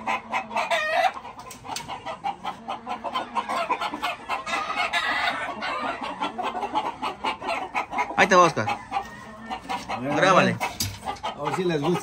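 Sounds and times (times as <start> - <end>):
roosters clucking: 0.0 - 12.0.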